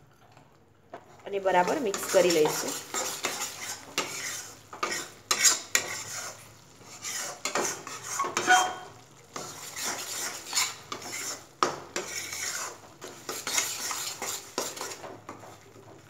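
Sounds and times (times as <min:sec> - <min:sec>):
spatula scraping a pan: 0:01.0 - 0:15.7.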